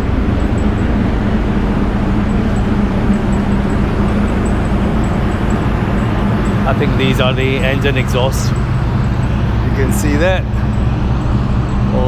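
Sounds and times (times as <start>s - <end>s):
ferry engine exhaust rumble: 0.0s - 12.0s
low hum: 0.0s - 12.0s.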